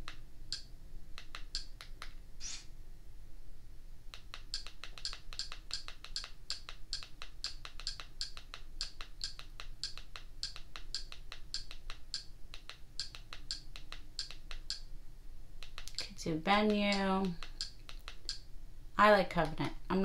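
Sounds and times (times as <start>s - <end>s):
evenly spaced clicks: 0.0s - 2.6s, 4.2s - 14.9s, 15.6s - 18.5s.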